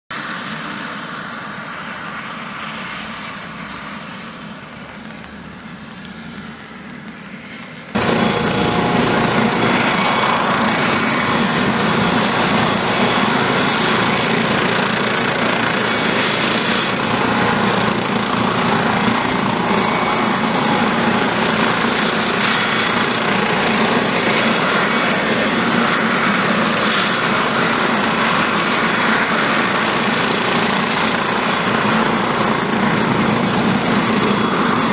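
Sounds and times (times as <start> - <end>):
helicopter running on ground: 0.2 - 34.9.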